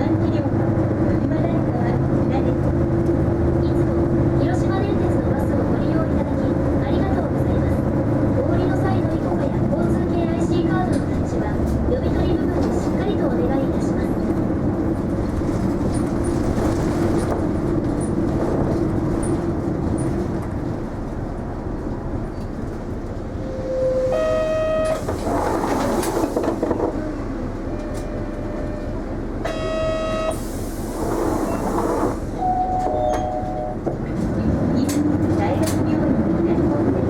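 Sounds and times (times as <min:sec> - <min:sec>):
bus engine and road noise: 0:00.0 - 0:37.0.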